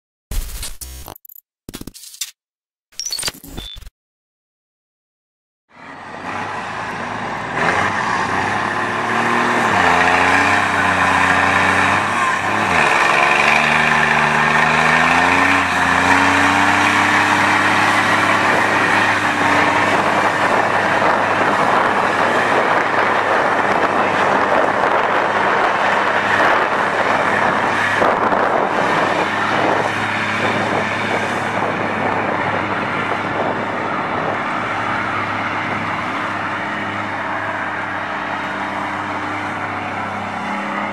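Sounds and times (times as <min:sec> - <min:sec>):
diesel truck engine revving: 0:05.7 - 0:40.9.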